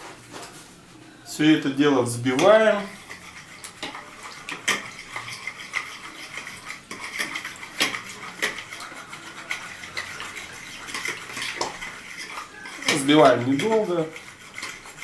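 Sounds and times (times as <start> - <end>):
utensil beating egg in a bowl: 1.4 - 15.0.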